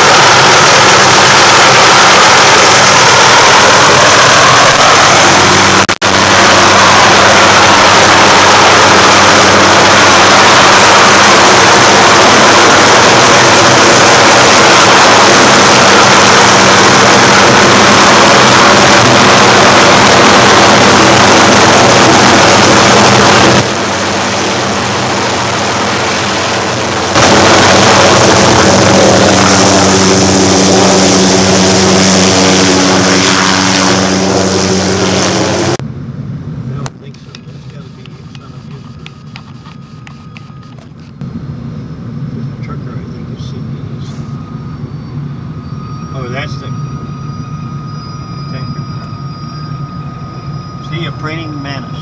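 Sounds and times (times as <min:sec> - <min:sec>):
helicopter rotor and turbine: 0:00.0 - 0:52.0.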